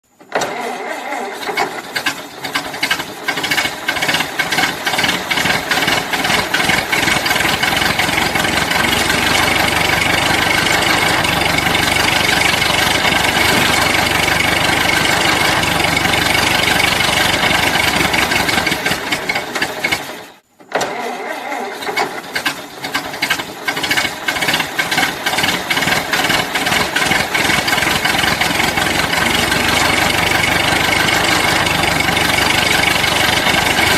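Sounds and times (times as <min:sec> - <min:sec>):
car starter cranking engine: 0:00.2 - 0:33.9
engine running rough: 0:01.4 - 0:20.4, 0:22.2 - 0:33.9.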